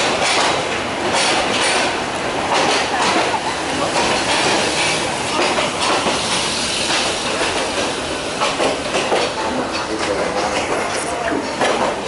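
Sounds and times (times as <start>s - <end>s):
train carriage rumbling and rattling: 0.0s - 12.0s
wheels clacking over rails: 0.0s - 12.0s.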